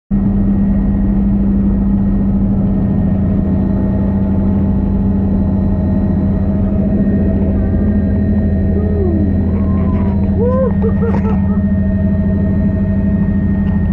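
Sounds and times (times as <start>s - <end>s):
helicopter engine and rotors: 0.1s - 13.9s.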